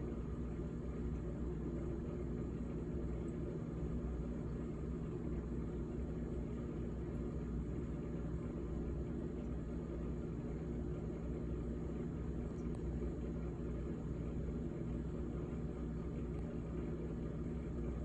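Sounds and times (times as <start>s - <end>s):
refrigerator humming: 0.0s - 18.0s.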